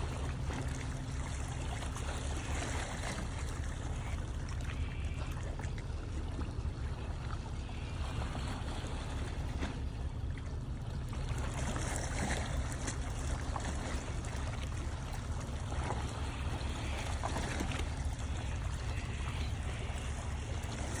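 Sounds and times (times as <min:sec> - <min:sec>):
steady low rumble: 0:00.0 - 0:21.0
water lapping against rocks: 0:00.0 - 0:21.0.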